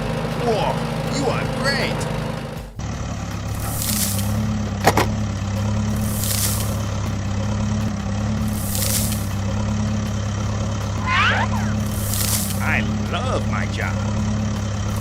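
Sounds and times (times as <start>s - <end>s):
heavy vehicle engine idling: 0.0s - 15.0s.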